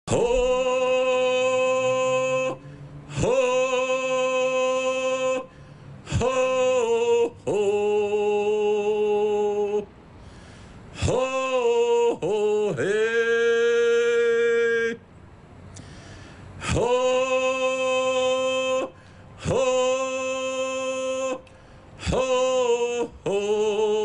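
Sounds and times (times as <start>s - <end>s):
man chanting long held notes: 0.1s - 9.9s, 10.9s - 15.0s, 16.6s - 24.0s.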